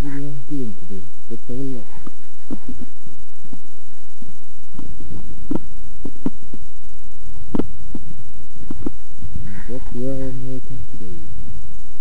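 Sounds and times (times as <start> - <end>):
microphone handling rumble: 0.0 - 12.0.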